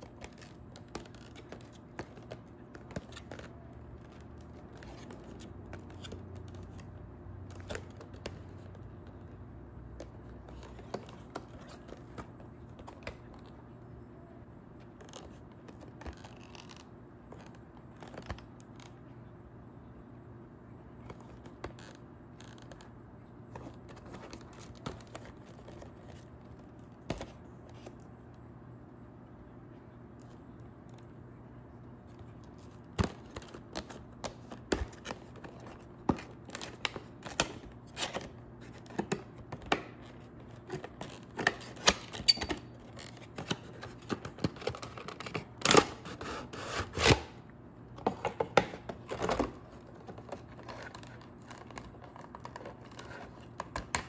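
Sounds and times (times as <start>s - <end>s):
cardboard and plastic clicks and crinkles: 0.0s - 13.8s, 14.8s - 19.1s, 21.0s - 28.4s, 32.0s - 47.3s, 47.9s - 54.0s
low steady hum: 0.0s - 54.0s.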